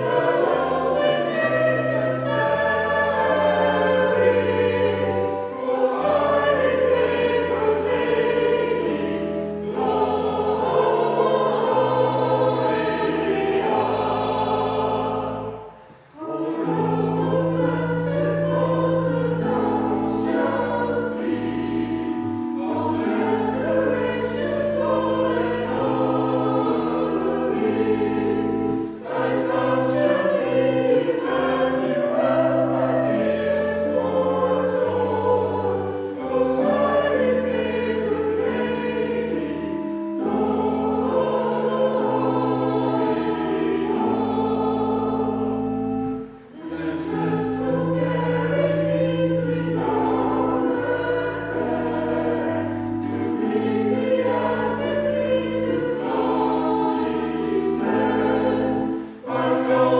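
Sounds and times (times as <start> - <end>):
church choir singing a carol: 0.0 - 59.9.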